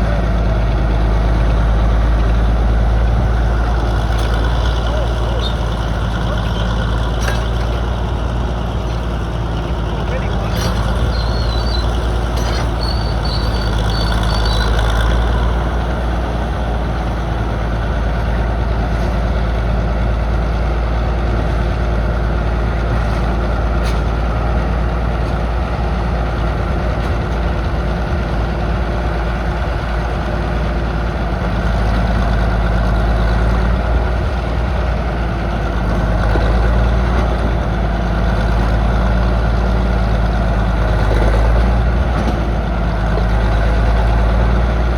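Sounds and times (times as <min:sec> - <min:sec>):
excavator engine droning: 0:00.0 - 0:44.9.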